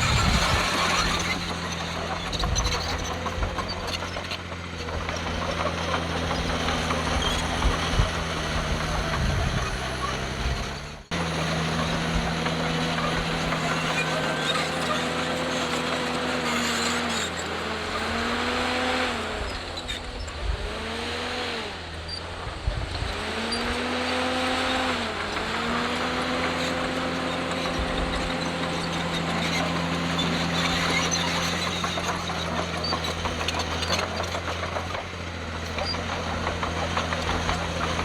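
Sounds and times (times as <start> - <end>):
diesel engine pitch rising and falling: 0.0 - 34.3
diesel engine steady drone: 0.0 - 38.0.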